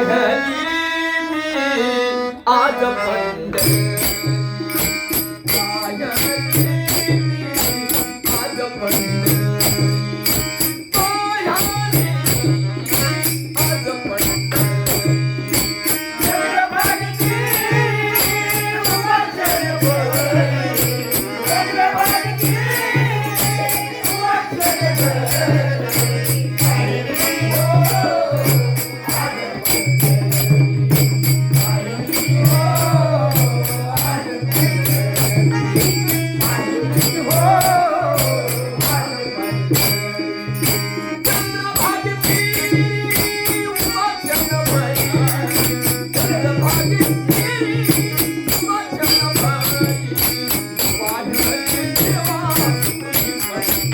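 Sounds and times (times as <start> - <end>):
jingling percussion: 3.5 - 53.9.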